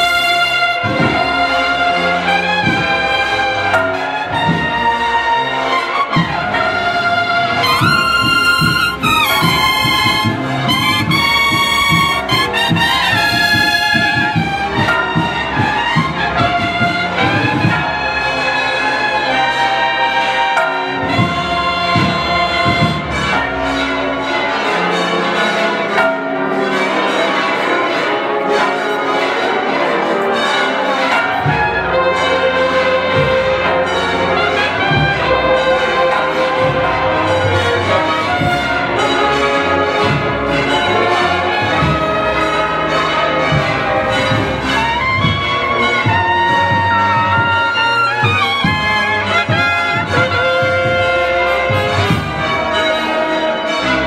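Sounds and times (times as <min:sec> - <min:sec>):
steady drumbeat: 0:00.0 - 0:24.2, 0:31.1 - 0:54.0
bugle band playing a march: 0:00.0 - 0:54.0.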